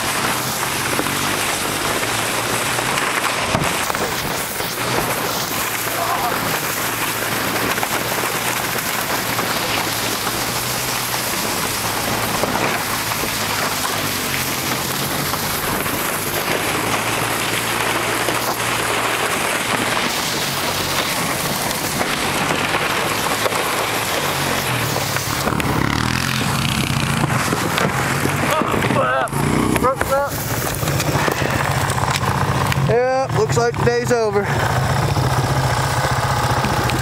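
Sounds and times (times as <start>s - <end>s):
atv engine running low: 0.0s - 37.0s
sled skidding over snow: 0.0s - 37.0s.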